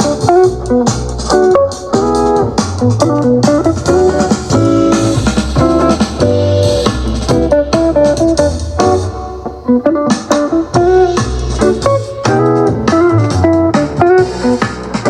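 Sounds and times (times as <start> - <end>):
guitar music with bass line: 0.0 - 15.0.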